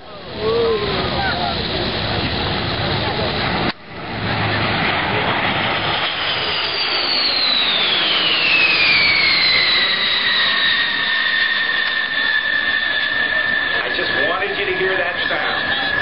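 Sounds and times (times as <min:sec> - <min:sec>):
jet engines roaring: 0:00.0 - 0:16.0
high whine dropping in pitch: 0:00.2 - 0:16.0.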